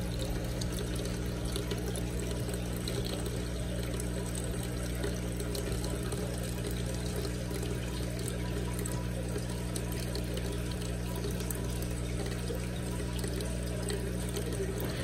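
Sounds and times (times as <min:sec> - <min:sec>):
low pump hum: 0:00.0 - 0:15.0
water trickling and splashing: 0:00.0 - 0:15.0.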